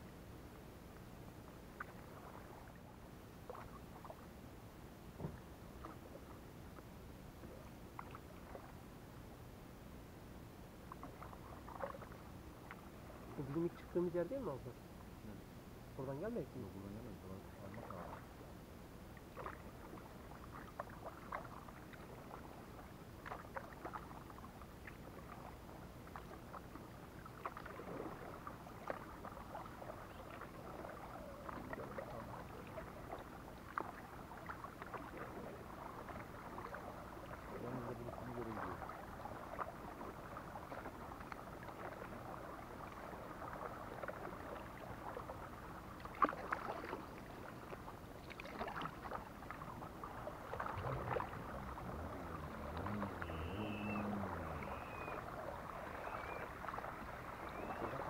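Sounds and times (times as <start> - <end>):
paddle splashing water: 1.4 - 4.5, 5.1 - 9.0, 10.8 - 15.4, 16.1 - 58.0.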